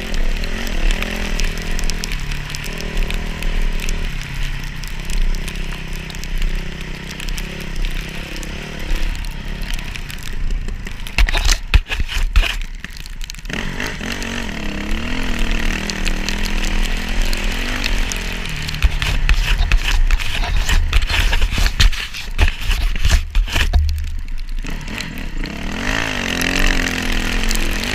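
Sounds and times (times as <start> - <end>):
dirt bike engine running: 0.0 - 27.9.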